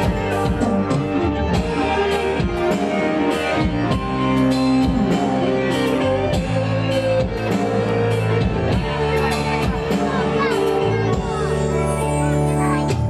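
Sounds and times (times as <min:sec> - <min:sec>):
steady drum beat: 0:00.0 - 0:12.2
electronic keyboard playing: 0:00.0 - 0:13.0.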